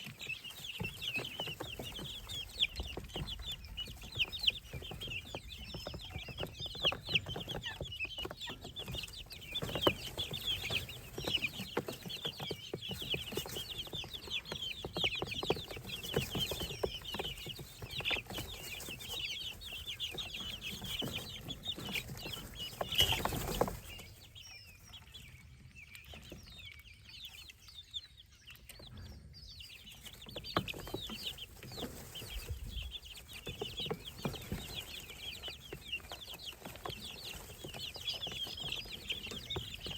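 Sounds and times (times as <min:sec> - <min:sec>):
baby birds peeping: 0:00.0 - 0:39.9.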